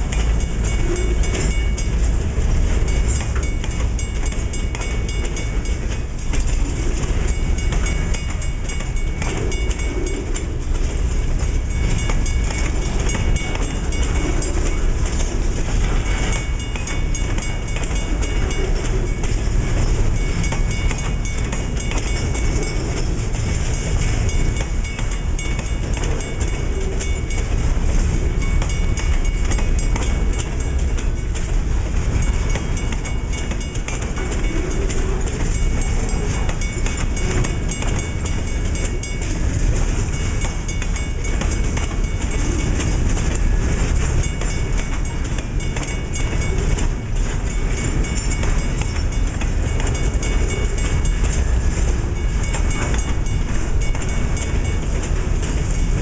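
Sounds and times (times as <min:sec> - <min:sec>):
steel wheels rumbling on rails: 0:00.0 - 0:56.0
wheels clacking over rail joints: 0:00.0 - 0:56.0.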